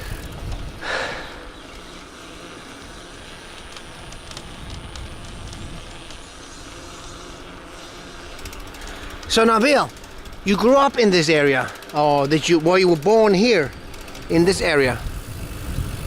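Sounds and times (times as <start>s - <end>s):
outdoor rumbling: 0.0s - 16.0s.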